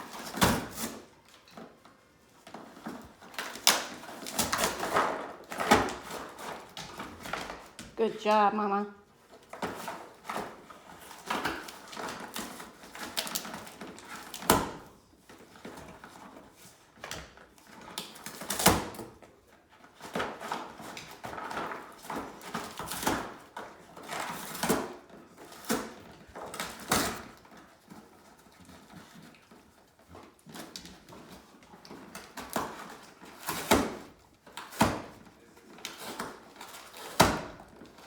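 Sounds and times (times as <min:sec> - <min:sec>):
dog tearing at cardboard: 0:00.0 - 0:01.7, 0:02.4 - 0:07.9, 0:09.2 - 0:38.0.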